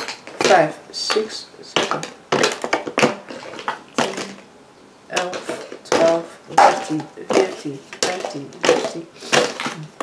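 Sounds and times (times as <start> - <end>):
plastic bottles clattering down: 0.0 - 4.4, 5.1 - 10.0.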